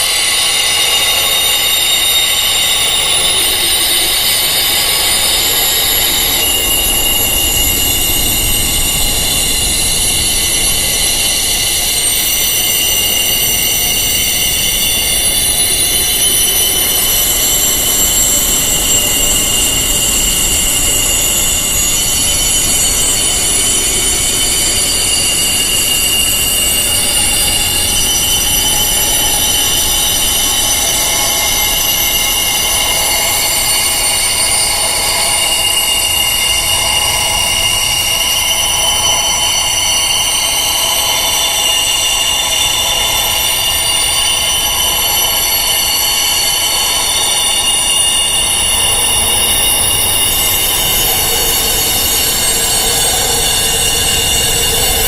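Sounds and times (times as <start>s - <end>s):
wind chimes ringing: 0.0s - 55.0s.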